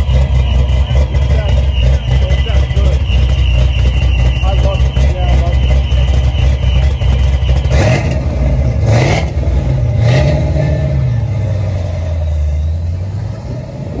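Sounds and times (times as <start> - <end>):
car exhaust surging: 0.0 - 14.0.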